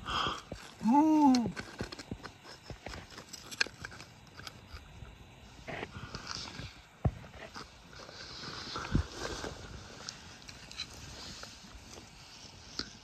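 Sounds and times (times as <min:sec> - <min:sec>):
pry bar scraping rock: 0:00.3 - 0:13.0.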